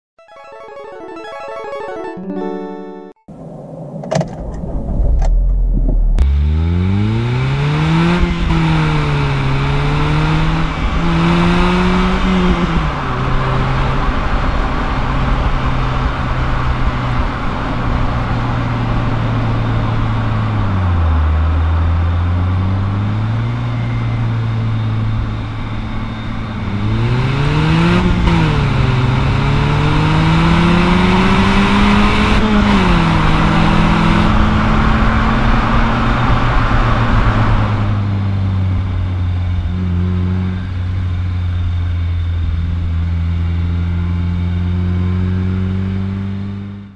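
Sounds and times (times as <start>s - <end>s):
car engine starting: 3.4s - 44.5s
car engine revving through gears: 5.0s - 46.9s.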